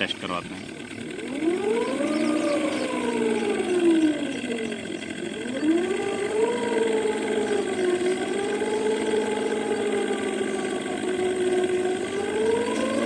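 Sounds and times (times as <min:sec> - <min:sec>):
synthesized scooter engine sound: 0:00.0 - 0:13.0.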